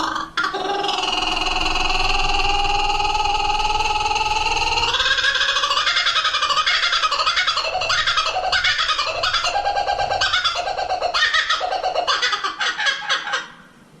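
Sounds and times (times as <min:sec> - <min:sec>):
kookaburra laughing call: 0:00.0 - 0:13.8.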